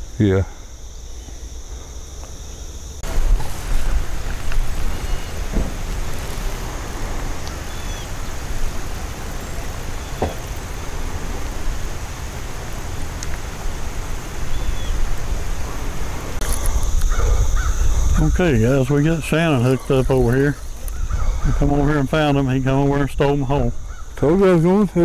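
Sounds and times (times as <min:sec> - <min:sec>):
even hiss: 0:00.0 - 0:25.0
low unsteady rumble: 0:01.6 - 0:22.1.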